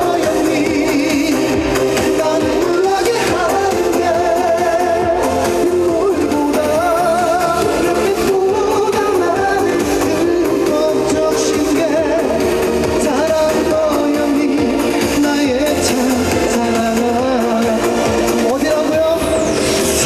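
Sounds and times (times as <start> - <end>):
band backing track: 0.0 - 20.0
man singing vibrato notes: 0.0 - 20.0.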